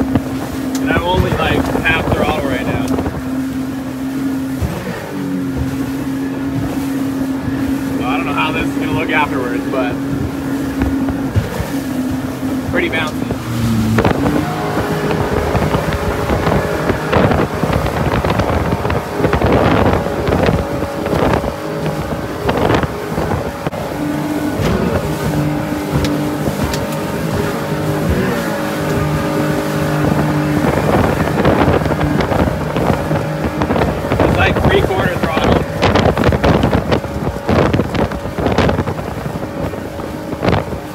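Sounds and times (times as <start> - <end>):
hull slapping over waves: 0.0 - 40.9
jet boat engine running: 0.0 - 40.9
wind on microphone: 0.0 - 40.9.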